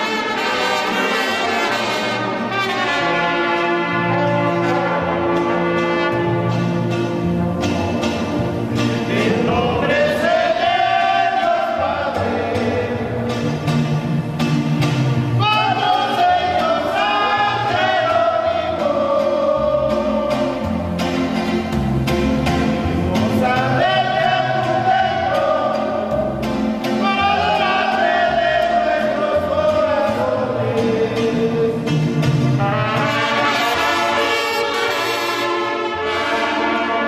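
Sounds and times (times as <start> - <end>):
brass music with bass line: 0.0 - 37.0.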